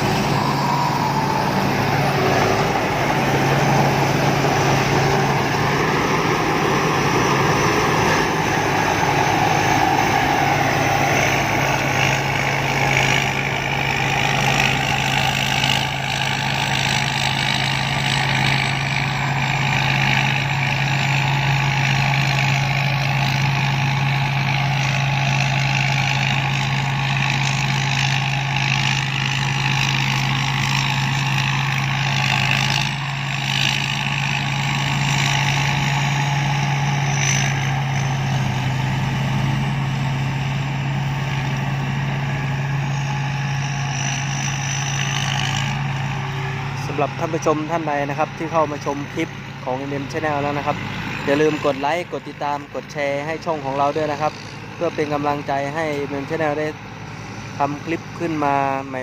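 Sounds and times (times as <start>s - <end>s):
combine harvester engine running: 0.0s - 59.0s.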